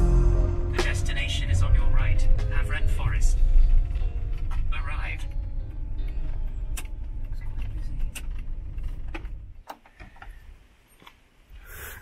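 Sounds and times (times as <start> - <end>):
vehicle engine rumble: 0.0 - 9.6.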